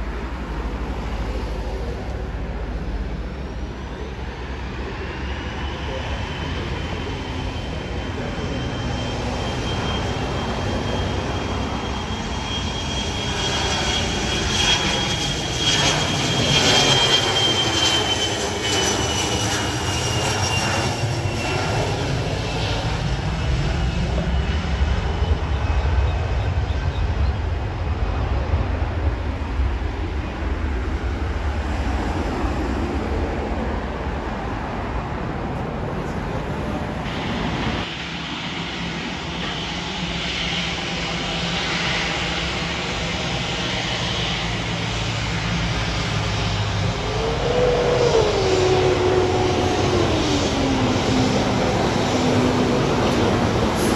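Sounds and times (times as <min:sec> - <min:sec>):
airplane engines passing: 0:00.0 - 0:53.9.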